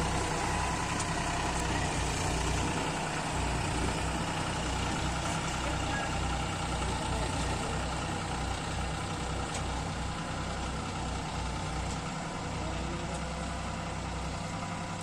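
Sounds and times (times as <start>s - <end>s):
diesel tractor engine throbbing: 0.0s - 15.0s.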